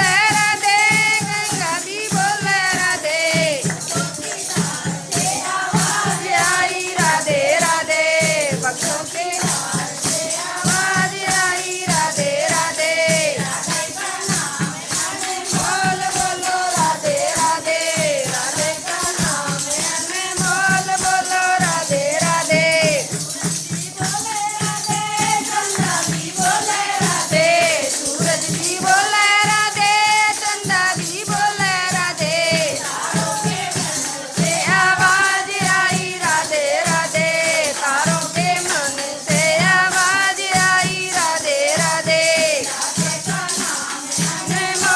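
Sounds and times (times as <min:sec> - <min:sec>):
rattling shaken percussion: 0:00.0 - 0:44.9
steady drum beat: 0:00.0 - 0:44.9.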